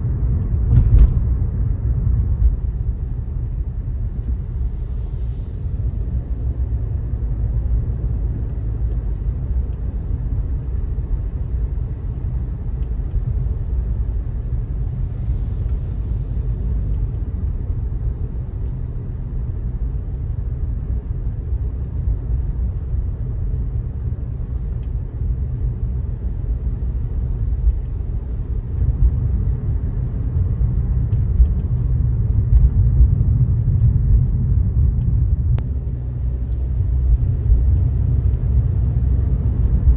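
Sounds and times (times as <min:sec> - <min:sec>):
car road and tyre noise: 0:00.0 - 0:39.9.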